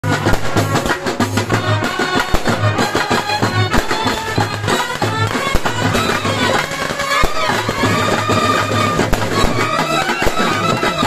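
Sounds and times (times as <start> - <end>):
brass band playing lively tune: 0.0 - 11.0
steady drum beat: 0.0 - 11.0.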